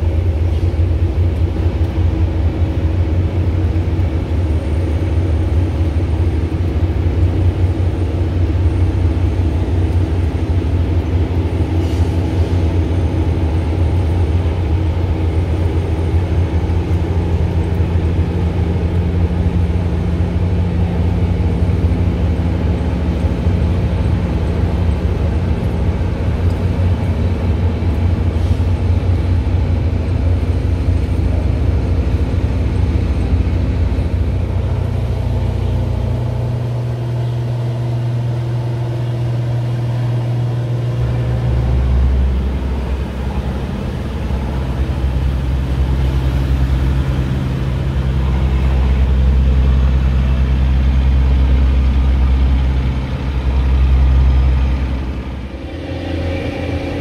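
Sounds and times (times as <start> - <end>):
heavy engine humming: 0.0 - 57.0.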